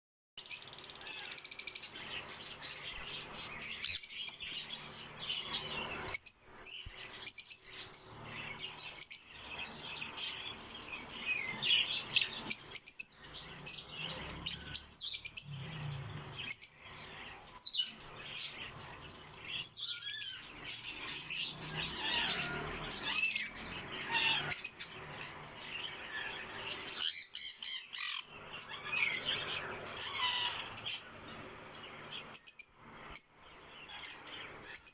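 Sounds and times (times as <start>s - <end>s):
birds chirping: 0.4s - 34.9s.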